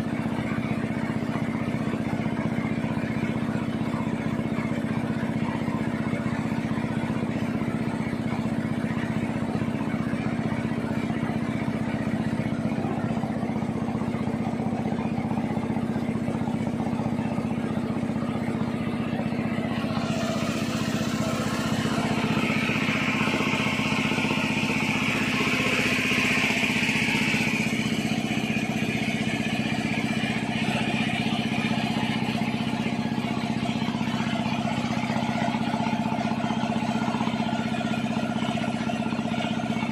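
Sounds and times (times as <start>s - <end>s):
boat motor running: 0.0s - 39.9s
water rushing along hull: 0.0s - 39.9s.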